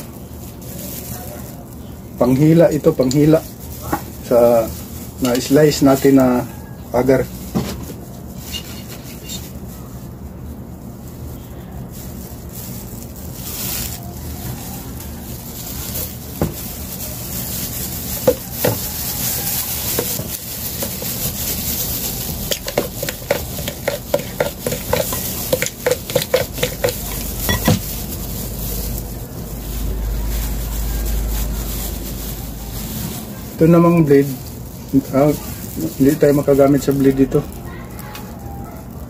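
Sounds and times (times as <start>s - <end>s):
plastic bag crinkling: 0.0s - 39.0s.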